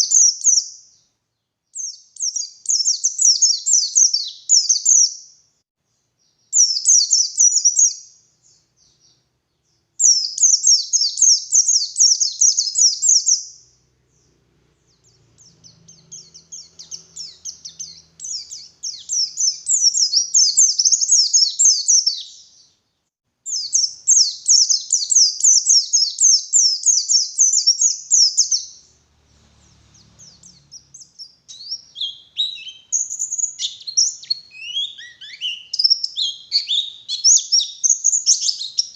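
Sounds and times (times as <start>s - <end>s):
bird singing rapid chattering song: 0.0s - 5.4s, 6.1s - 38.9s.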